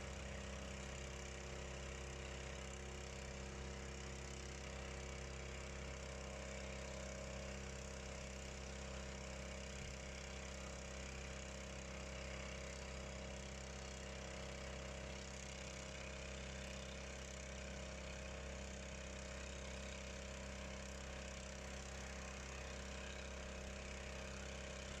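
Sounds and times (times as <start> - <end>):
motor pump engine running: 0.0 - 25.0.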